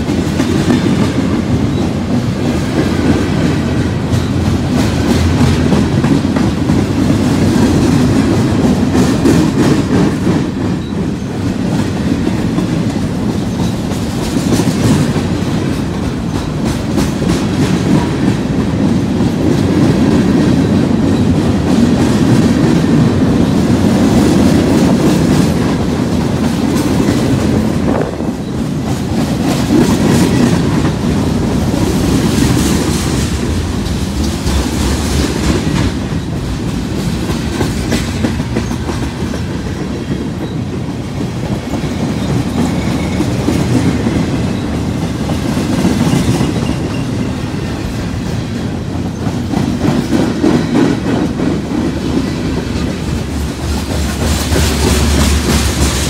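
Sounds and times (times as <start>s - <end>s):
freight train rumbling past: 0.0s - 56.0s
train wheels clacking: 0.0s - 56.0s.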